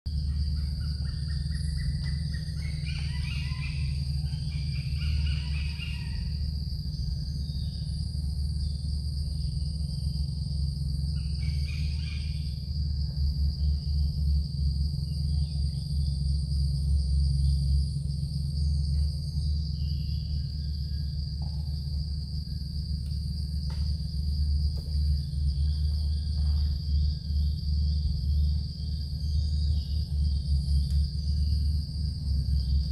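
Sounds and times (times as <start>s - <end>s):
faint pulsing chirp: 0.1s - 32.9s
insects droning: 0.1s - 32.9s
steady low hum: 0.1s - 32.9s.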